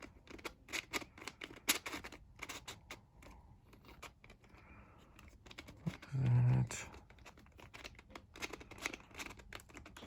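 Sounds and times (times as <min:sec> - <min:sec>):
plastic puzzle clicking and scraping: 0:00.0 - 0:10.0.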